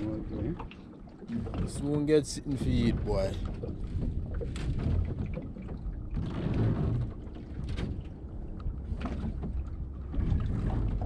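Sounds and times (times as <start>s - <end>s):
water splashing against a boat hull: 0.0s - 11.0s
wind rumble on microphone: 0.0s - 11.0s.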